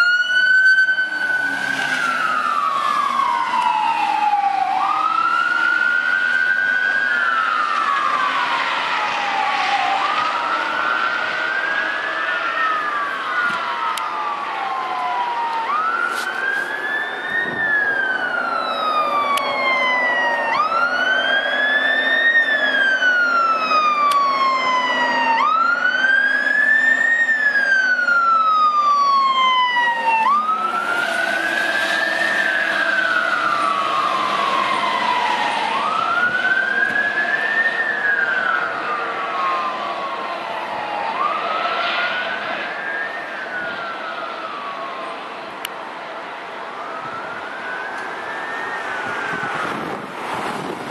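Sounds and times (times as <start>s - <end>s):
electronic siren wailing: 0.0s - 45.6s, 46.7s - 50.9s.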